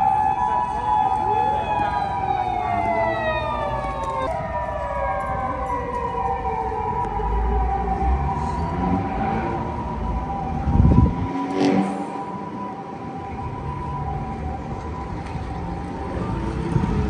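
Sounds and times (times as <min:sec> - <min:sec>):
steady higher siren tone: 0:00.0 - 0:17.0
wailing siren: 0:00.0 - 0:17.0.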